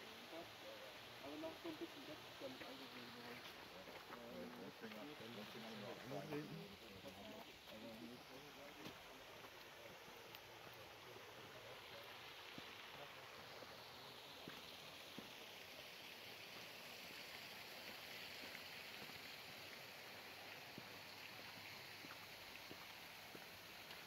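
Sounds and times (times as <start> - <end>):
running water cascade: 0.0 - 24.0.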